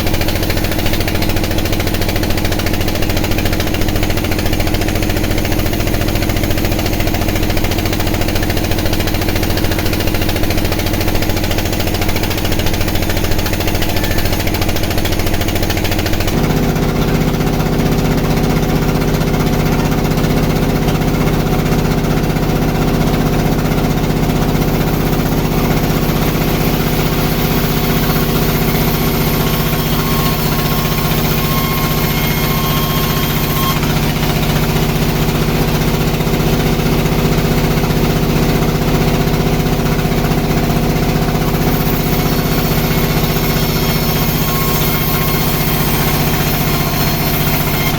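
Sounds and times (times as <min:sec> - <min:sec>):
sawmill engine knocking throb: 0:00.0 - 0:47.9.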